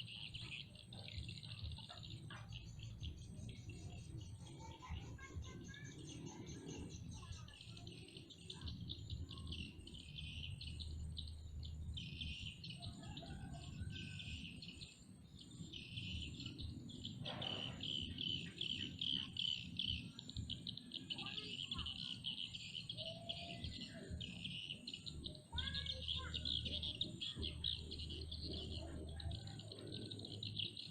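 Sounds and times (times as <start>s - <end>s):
insects and birds trilling: 0.0s - 30.9s.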